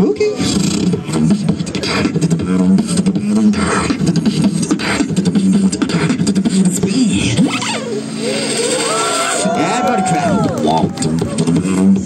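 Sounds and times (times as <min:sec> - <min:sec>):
person beatboxing into microphone: 0:00.0 - 0:07.8, 0:10.0 - 0:12.0.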